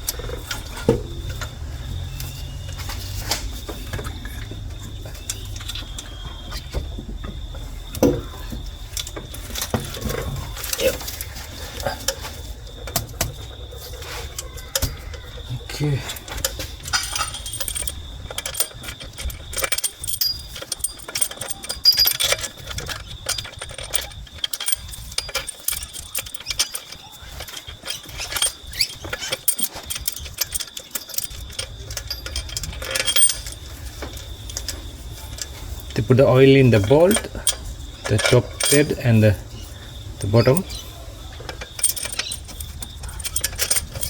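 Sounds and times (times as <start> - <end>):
metal tools clinking: 0.0 - 44.0.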